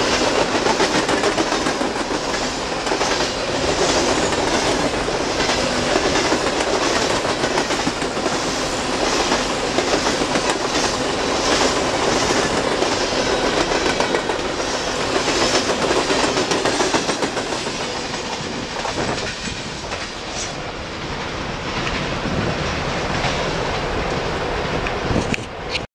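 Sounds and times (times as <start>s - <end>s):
train wheels clacking over rail joints: 0.0s - 25.8s
train rolling rumble: 0.0s - 25.9s.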